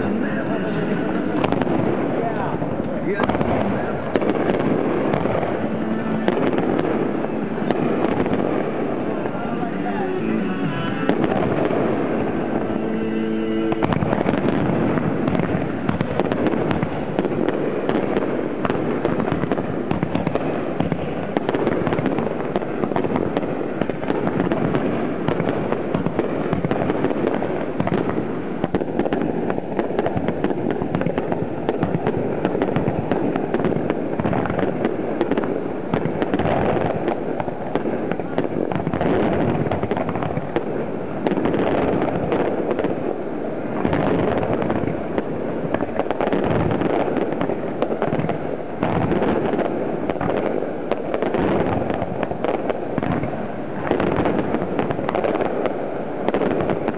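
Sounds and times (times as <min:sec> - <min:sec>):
fireworks barrage: 0:00.0 - 0:56.9.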